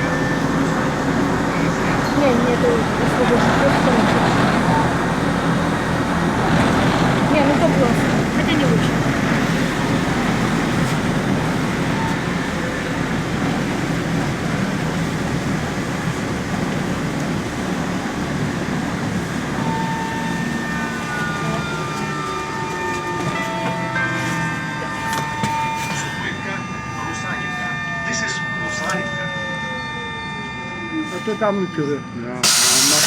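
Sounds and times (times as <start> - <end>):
trolleybus wheels rumbling: 0.0 - 33.0.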